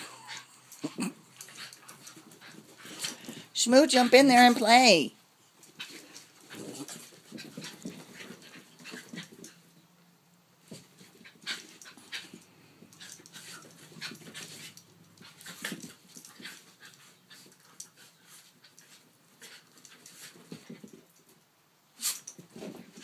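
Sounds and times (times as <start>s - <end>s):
dogs scuffling: 1.0s - 9.8s, 10.6s - 21.4s, 22.0s - 23.0s.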